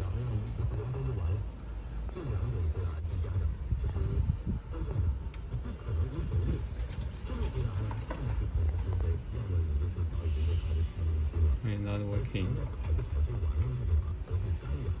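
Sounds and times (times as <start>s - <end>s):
faint voices: 0.0s - 15.0s
vehicle engine rumbling: 0.0s - 15.0s.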